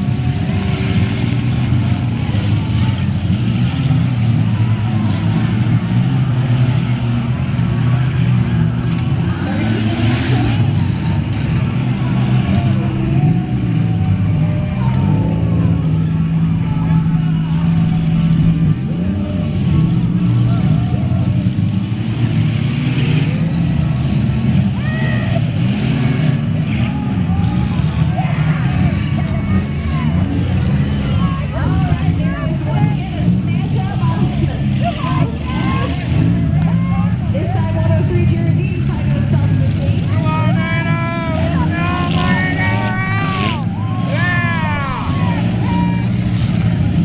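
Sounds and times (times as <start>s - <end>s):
car engines running: 0.0s - 47.0s.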